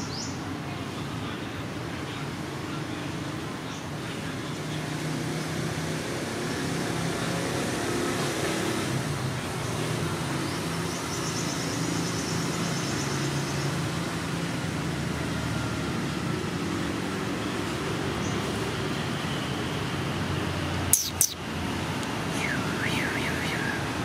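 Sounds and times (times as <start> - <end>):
vehicle traffic hum: 0.0 - 24.0.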